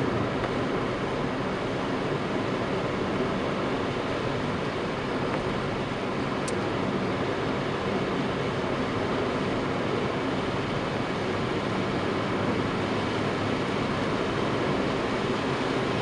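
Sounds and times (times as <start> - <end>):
car engine cruising: 0.0 - 16.0
tyres on wet asphalt: 0.0 - 16.0.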